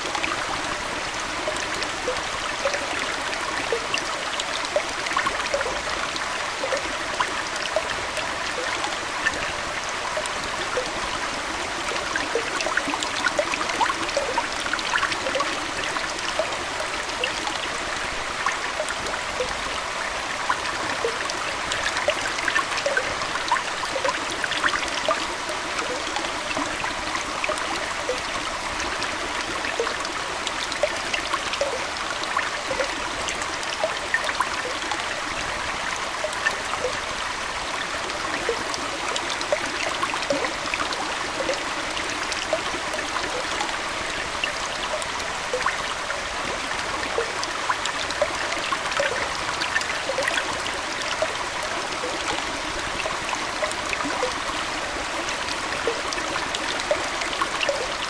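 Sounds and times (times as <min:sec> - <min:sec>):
aquarium water trickling: 0:00.0 - 0:58.0
bubbling pops and splashes: 0:01.5 - 0:09.5, 0:11.7 - 0:19.8, 0:20.4 - 0:35.4, 0:37.9 - 0:58.0.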